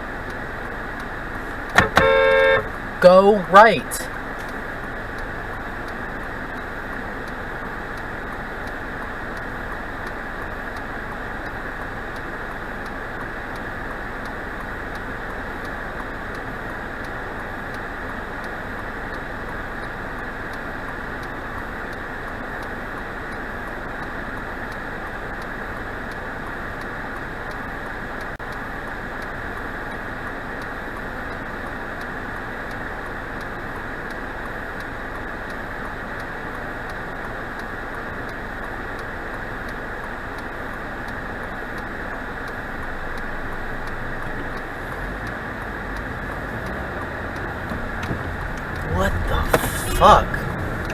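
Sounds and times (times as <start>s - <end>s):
car interior hiss and rumble: 0.0s - 50.9s.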